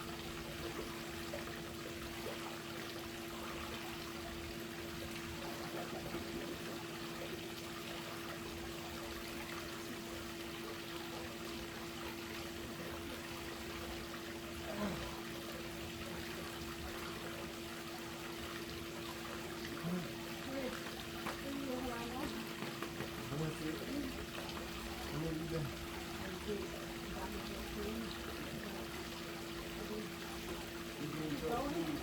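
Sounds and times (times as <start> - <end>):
pool water trickling: 0.0 - 32.0.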